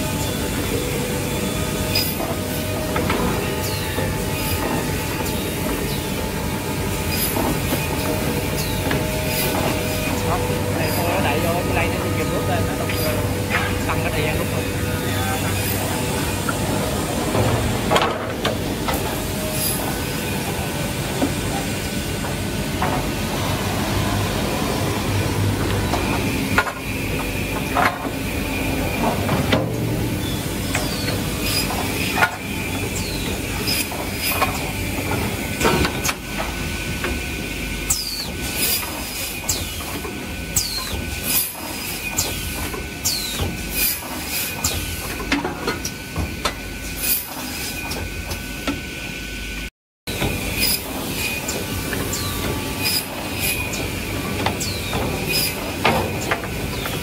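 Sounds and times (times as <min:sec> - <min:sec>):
machine drone with high whine: 0:00.0 - 0:57.0.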